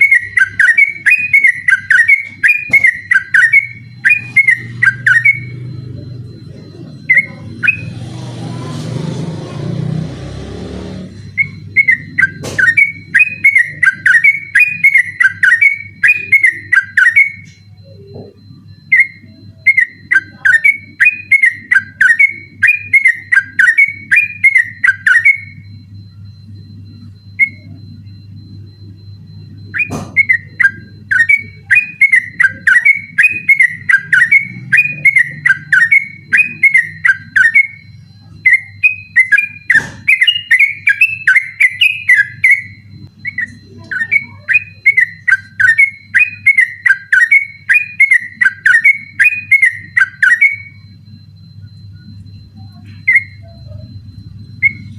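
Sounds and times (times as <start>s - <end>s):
bird singing warbled whistles: 0.0s - 5.7s, 7.0s - 8.1s, 11.3s - 17.7s, 18.8s - 25.8s, 29.7s - 50.9s, 51.9s - 54.9s.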